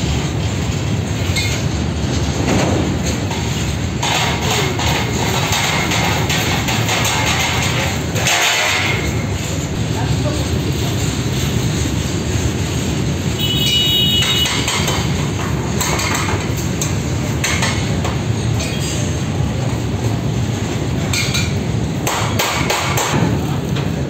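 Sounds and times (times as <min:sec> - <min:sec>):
metallic clanks and clatter: 0:00.0 - 0:13.0, 0:13.7 - 0:24.0
train wheels rumbling on rail: 0:00.0 - 0:24.0.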